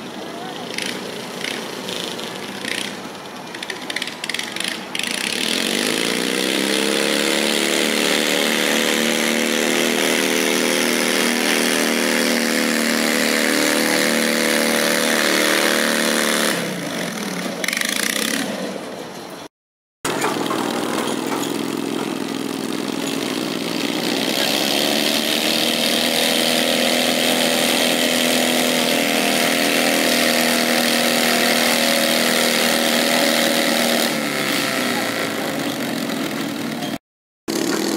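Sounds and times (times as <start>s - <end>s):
tractor engine running hard: 0.0s - 19.5s, 20.1s - 37.9s.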